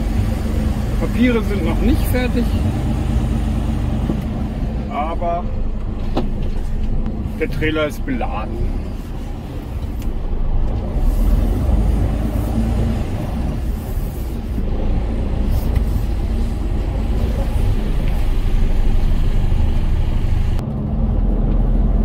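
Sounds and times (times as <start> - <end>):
diesel truck engine idling: 0.0 - 10.6, 11.7 - 20.6
rushing noise: 0.0 - 20.6.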